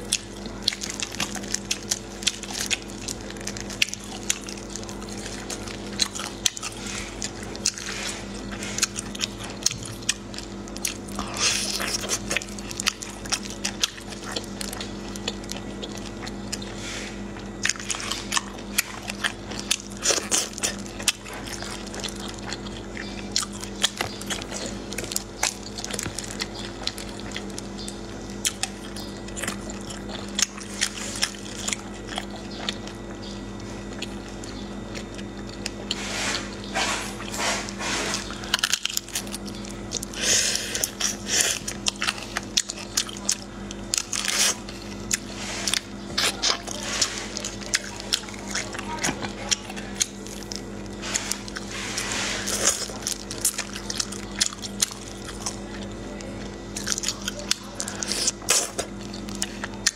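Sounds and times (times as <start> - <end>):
steady low hum: 0.0 - 59.9
wet chewing and sucking: 0.0 - 59.9.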